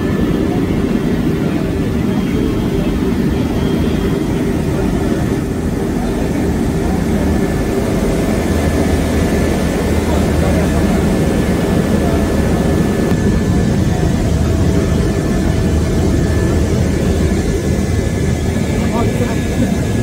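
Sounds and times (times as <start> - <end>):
aircraft engine and cabin noise: 0.0 - 20.0
faint steady whine: 0.0 - 20.0.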